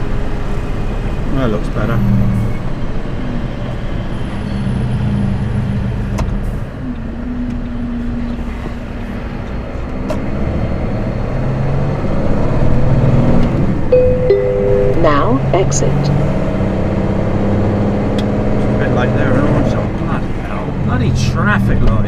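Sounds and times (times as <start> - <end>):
lorry diesel engine: 0.0 - 22.0
road noise: 0.0 - 22.0.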